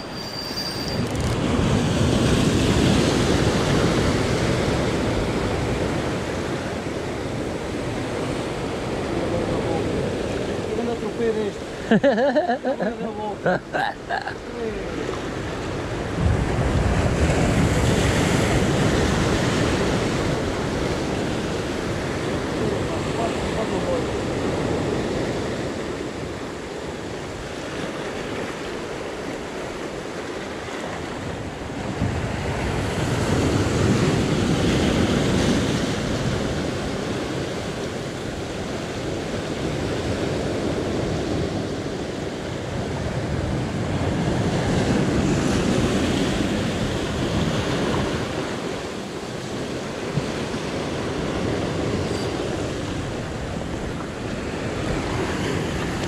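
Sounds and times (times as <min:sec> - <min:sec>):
sea waves washing on shore: 0:00.0 - 0:56.0.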